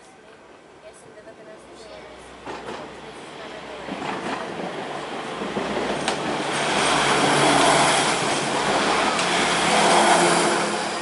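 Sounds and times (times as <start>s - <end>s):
train wheels on track: 1.8s - 11.0s.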